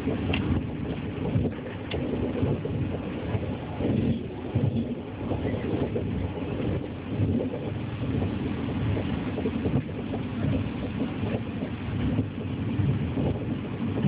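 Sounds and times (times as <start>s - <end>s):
train rumbling at speed: 0.0s - 14.0s.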